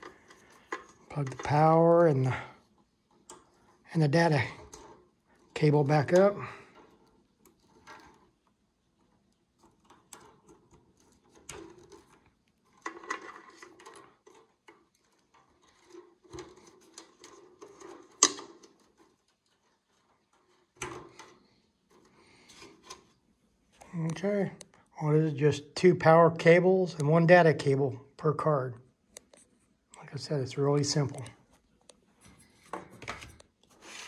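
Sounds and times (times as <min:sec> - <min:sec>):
cables rustling: 0:00.0 - 0:27.8, 0:28.4 - 0:34.0.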